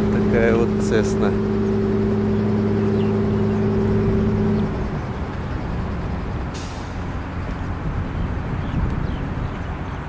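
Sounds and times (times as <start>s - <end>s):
engine humming: 0.0s - 10.0s
low outdoor rumble: 0.0s - 10.0s.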